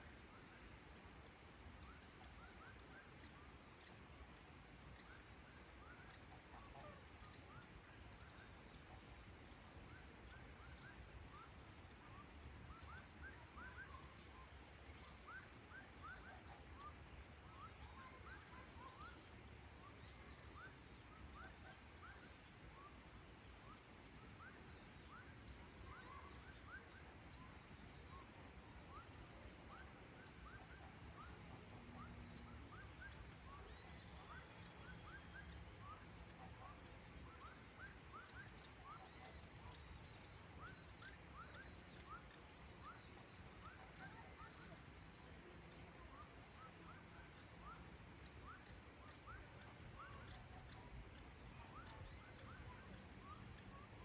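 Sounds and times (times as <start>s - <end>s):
distant animal chirps: 0.0s - 54.0s
faint low background noise: 0.0s - 54.0s.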